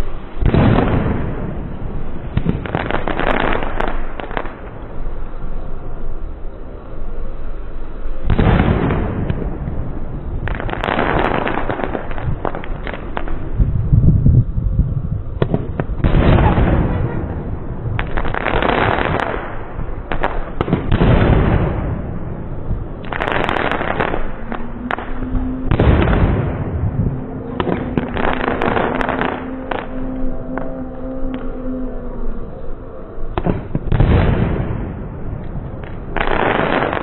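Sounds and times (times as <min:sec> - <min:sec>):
fireworks banging and crackling: 0:00.0 - 0:05.3, 0:08.3 - 0:14.5, 0:15.2 - 0:30.0, 0:33.3 - 0:37.0.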